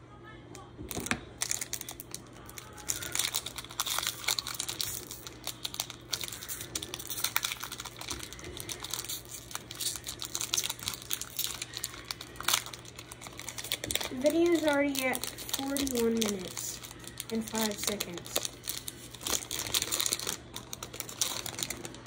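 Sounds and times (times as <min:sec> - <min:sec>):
foil pack crinkling: 0:00.9 - 0:22.0.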